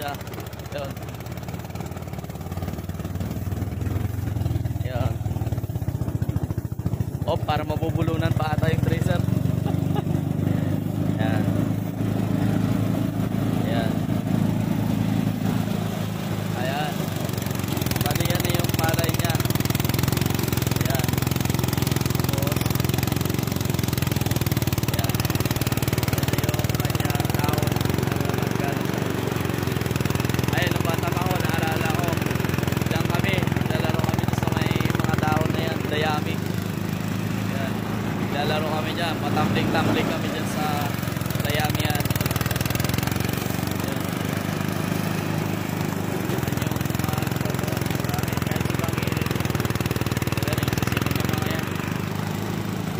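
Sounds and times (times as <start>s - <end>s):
thresher engine chugging: 0.0s - 52.9s.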